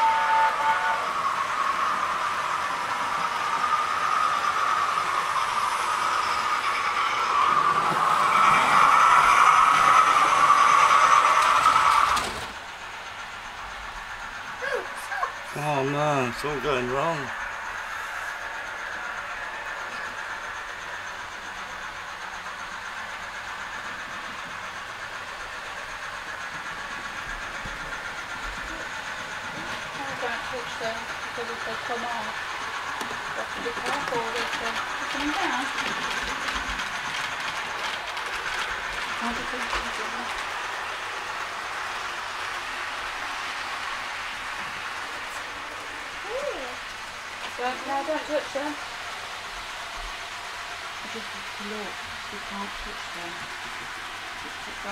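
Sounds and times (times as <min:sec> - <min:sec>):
model trains running: 0:00.0 - 0:54.9.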